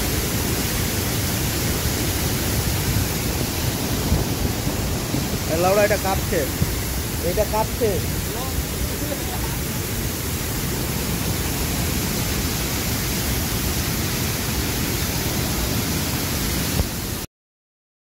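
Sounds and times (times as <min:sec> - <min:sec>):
floodwater rushing: 0:00.0 - 0:17.3.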